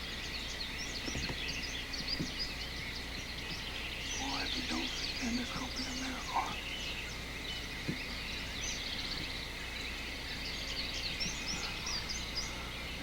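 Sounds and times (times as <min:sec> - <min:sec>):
songbirds chirping and singing: 0:00.0 - 0:13.0
wild turkey calling: 0:00.0 - 0:13.0.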